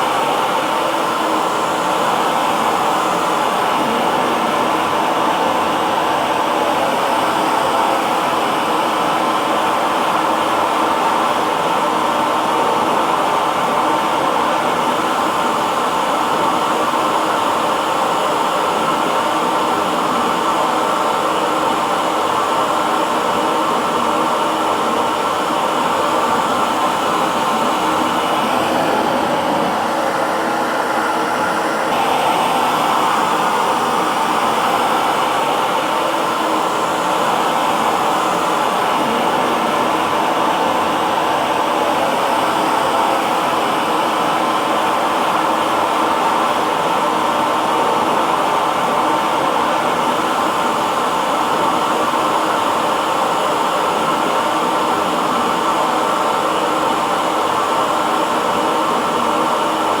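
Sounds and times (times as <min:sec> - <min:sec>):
hair dryer running: 0:00.0 - 1:00.0.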